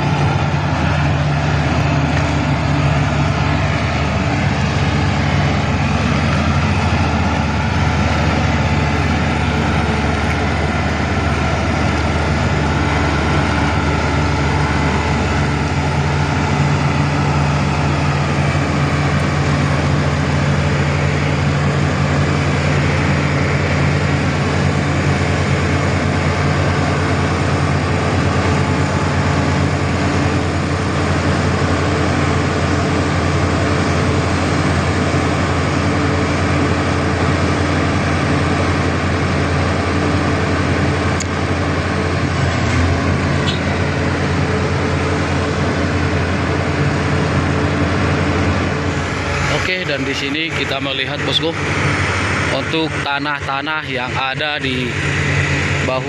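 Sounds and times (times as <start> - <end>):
excavator deep hum: 0.0 - 56.0.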